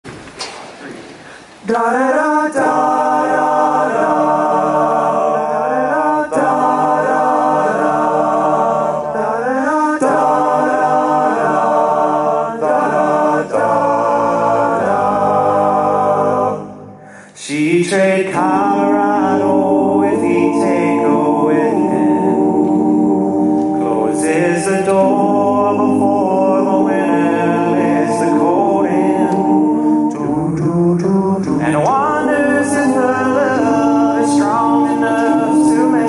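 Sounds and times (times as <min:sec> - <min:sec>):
male choir singing chords: 0:01.4 - 0:36.0.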